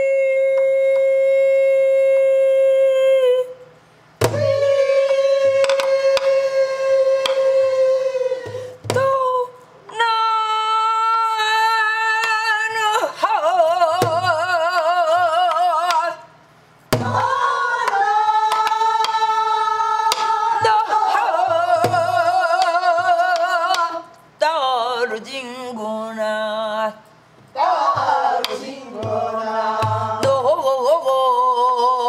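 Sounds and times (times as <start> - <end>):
woman singing with vibrato: 0.0 - 16.4, 17.0 - 27.0, 27.6 - 32.0.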